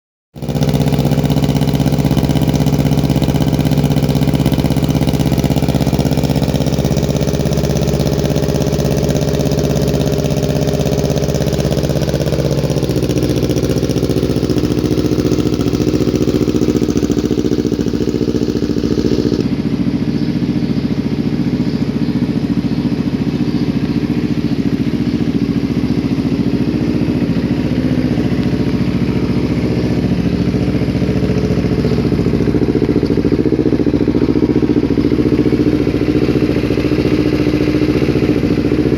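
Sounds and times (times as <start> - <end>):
motorcycle engine idling: 0.4 - 38.9.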